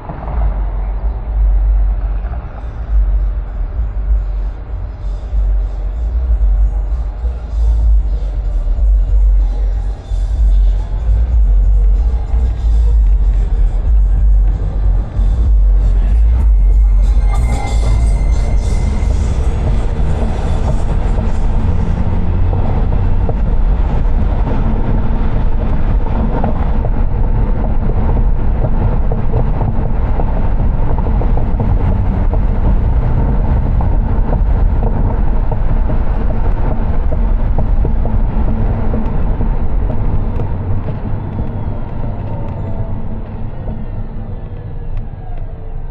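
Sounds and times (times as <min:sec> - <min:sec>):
moving vehicle rumble: 0:00.0 - 0:45.9
road noise: 0:00.0 - 0:45.9.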